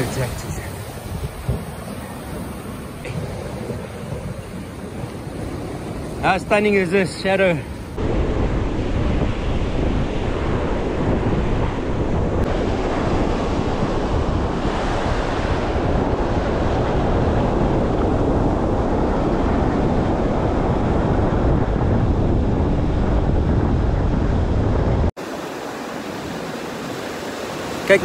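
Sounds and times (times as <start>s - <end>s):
surf breaking on a beach: 0.0s - 28.0s
wind buffeting microphone: 0.0s - 28.0s.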